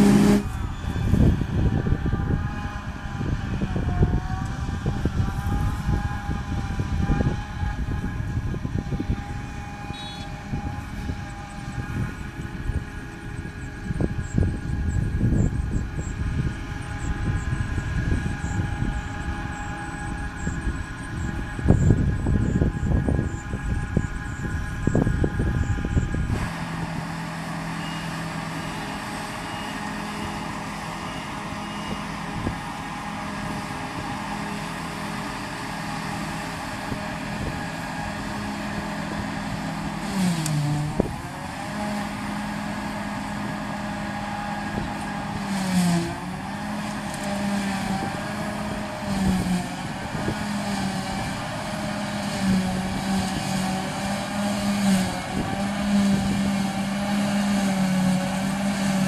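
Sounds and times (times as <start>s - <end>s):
wind buffeting microphone: 0.0s - 27.4s, 31.5s - 59.0s
forage harvester engine drone: 0.0s - 59.0s.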